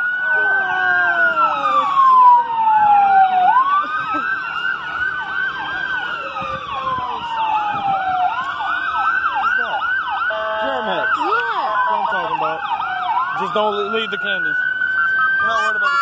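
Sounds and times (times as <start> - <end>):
fire engine siren wailing: 0.0 - 16.0
siren whooping: 0.0 - 16.0.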